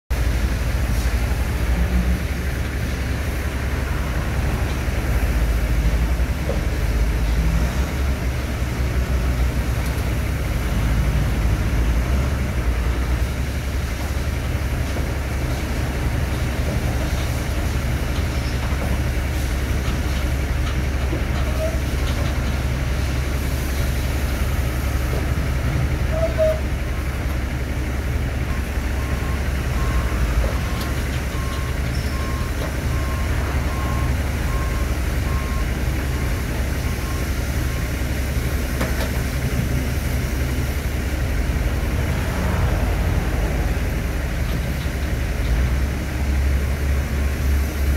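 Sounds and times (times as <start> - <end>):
diesel engine running: 0.1 - 47.9.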